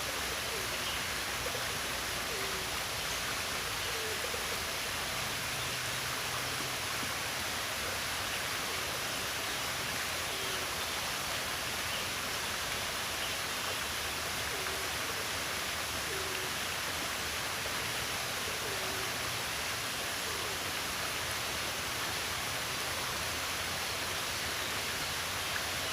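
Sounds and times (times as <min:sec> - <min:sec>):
rushing water: 0:00.0 - 0:25.9.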